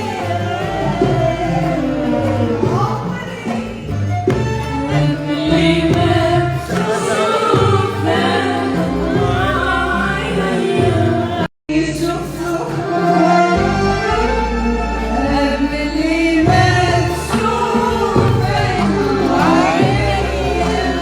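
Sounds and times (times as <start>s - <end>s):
music with singing voices: 0.0s - 21.0s.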